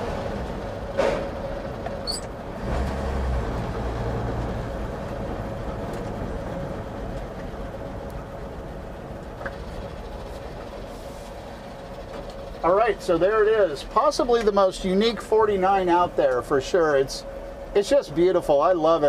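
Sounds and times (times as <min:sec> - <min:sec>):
pickup engine running: 0:00.0 - 0:19.0
road noise: 0:00.0 - 0:19.0.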